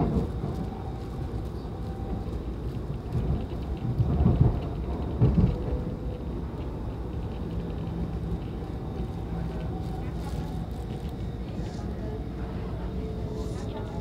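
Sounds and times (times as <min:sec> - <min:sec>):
train rumble with whining: 0:00.0 - 0:14.0.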